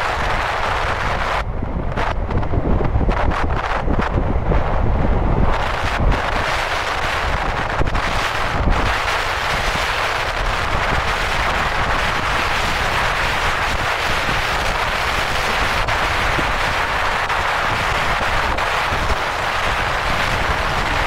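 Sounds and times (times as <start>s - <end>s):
car wind and road noise: 0.0s - 21.0s
wind buffeting rumble: 0.0s - 21.0s.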